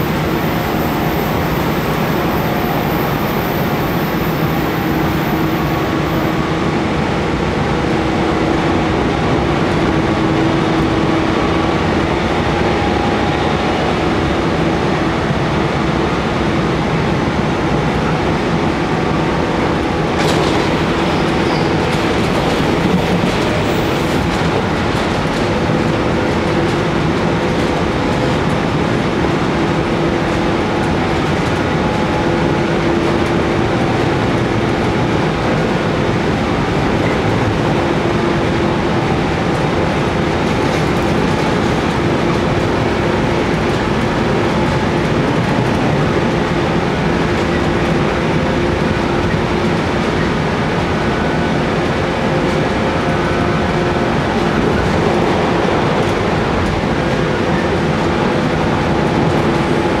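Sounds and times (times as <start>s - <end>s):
train wheels on rail: 0.0s - 60.0s.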